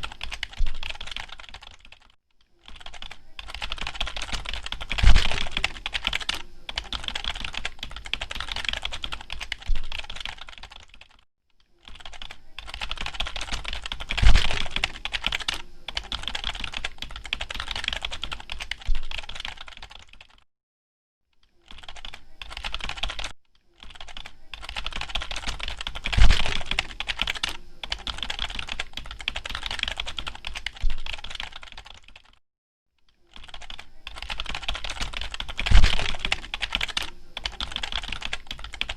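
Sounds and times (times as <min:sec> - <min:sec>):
typing on computer keyboard: 0:00.0 - 0:11.2, 0:11.8 - 0:20.4, 0:21.4 - 0:32.4, 0:33.2 - 0:38.9.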